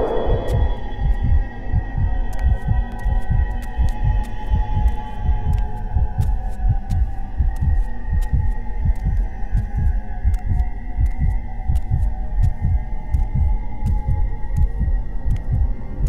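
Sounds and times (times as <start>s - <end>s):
low throbbing pulse: 0.0s - 16.0s
steady hum: 0.0s - 16.0s.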